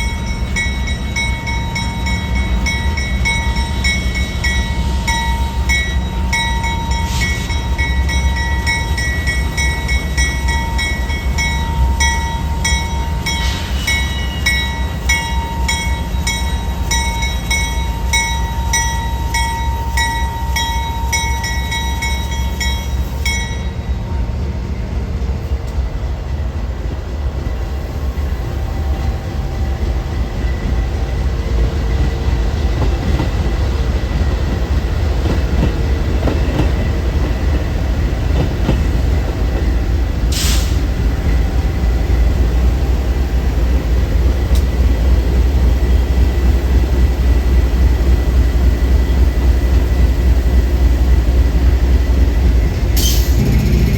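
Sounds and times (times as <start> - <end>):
train passing with heavy rumble: 0.0 - 53.9.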